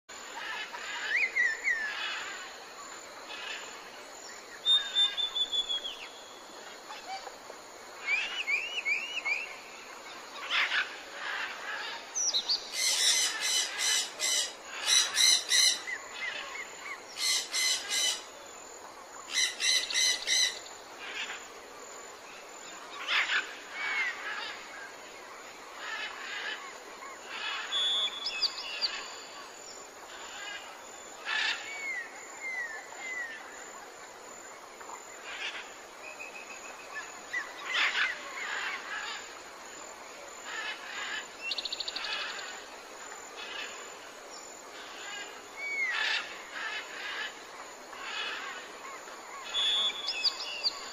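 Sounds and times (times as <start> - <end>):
faint outdoor hiss: 0.0 - 50.9.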